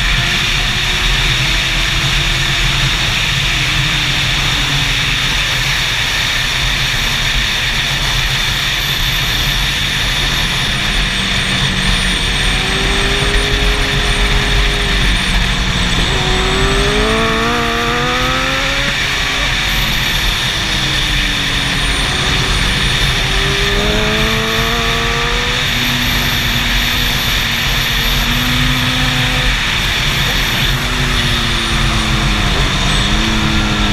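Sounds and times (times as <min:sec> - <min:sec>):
racing motorcycle engine: 0:00.0 - 0:33.9
steady rush of noise: 0:02.0 - 0:33.9.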